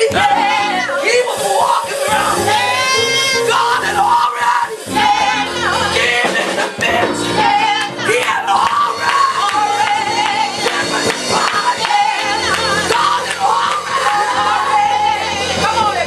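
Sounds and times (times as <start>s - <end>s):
music with singing voices: 0.0s - 16.0s.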